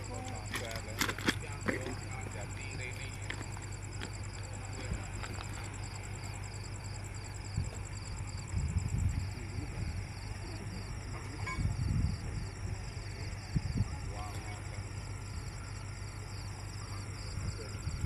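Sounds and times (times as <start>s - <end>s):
crickets chirring: 0.0s - 18.0s
faint distant voices: 0.0s - 18.0s
low machine rumble: 0.0s - 18.0s.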